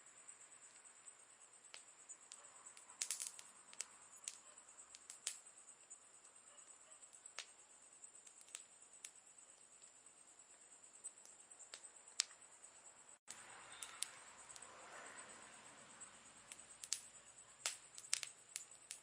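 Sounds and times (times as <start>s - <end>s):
campfire crackling and popping: 0.6s - 12.5s, 13.2s - 14.7s, 16.3s - 19.0s.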